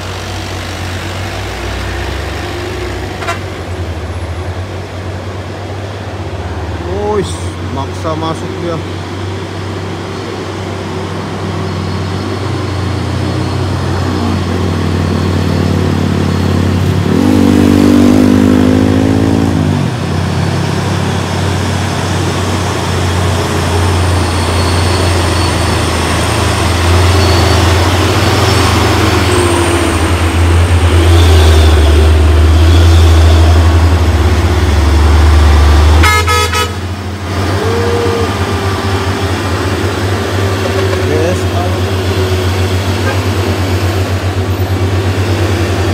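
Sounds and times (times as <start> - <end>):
truck diesel engine labouring: 0.0 - 45.9.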